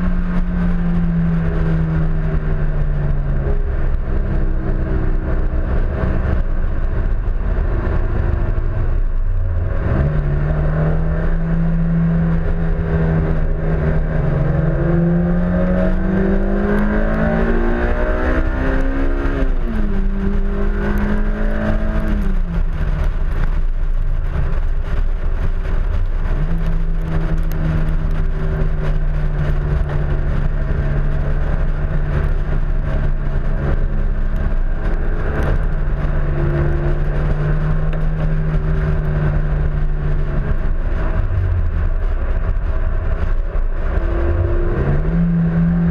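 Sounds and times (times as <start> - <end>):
rushing air rumble: 0.0 - 45.9
sports car engine on track: 0.0 - 45.9.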